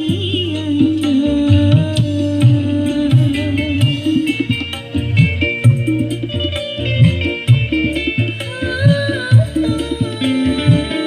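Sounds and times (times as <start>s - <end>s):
music through a speaker: 0.0s - 11.0s.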